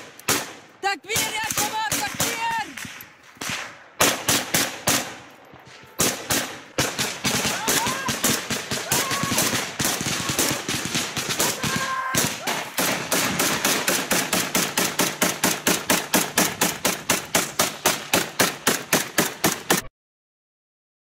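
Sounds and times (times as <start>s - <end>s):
rifle gunfire: 0.0s - 19.9s.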